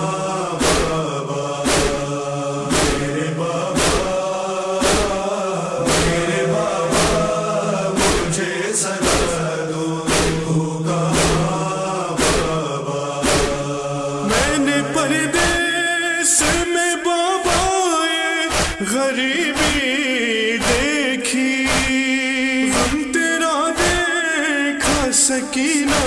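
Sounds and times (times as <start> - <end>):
rhythmic thump: 0.0 - 26.0
wordless chanting voices: 0.0 - 26.0.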